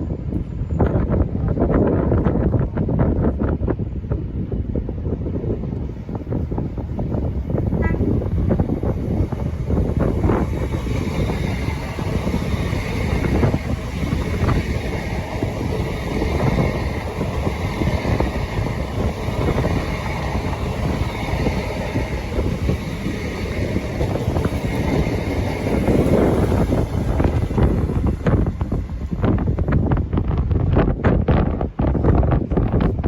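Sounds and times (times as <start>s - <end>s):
train rumbling and clattering: 0.0s - 33.0s
wind buffeting microphone: 0.0s - 33.0s.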